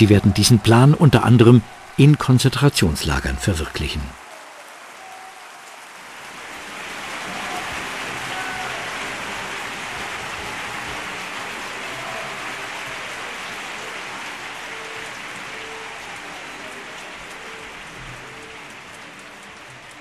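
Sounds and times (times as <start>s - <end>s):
crowd cheering and clapping: 0.0s - 20.0s.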